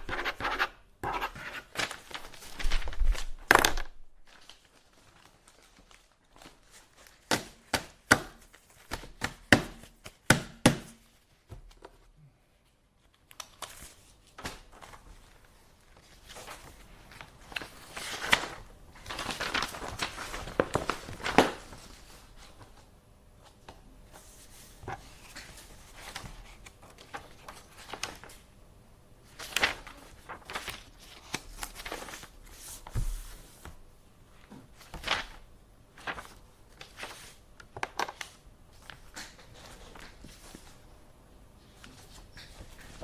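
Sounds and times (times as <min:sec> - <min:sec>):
paper rustling: 0:00.0 - 0:10.2, 0:13.0 - 0:28.5, 0:29.2 - 0:33.8, 0:34.4 - 0:40.8, 0:41.7 - 0:43.0.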